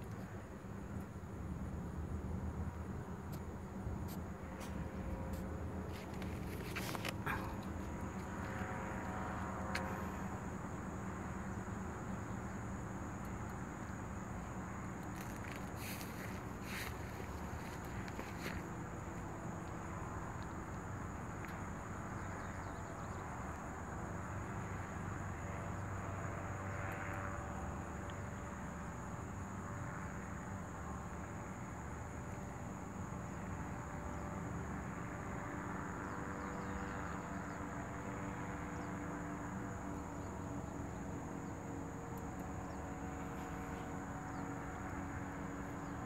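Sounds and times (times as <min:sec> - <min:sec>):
distant engine droning overhead: 0:00.0 - 0:46.0
insects chirring: 0:00.0 - 0:46.0.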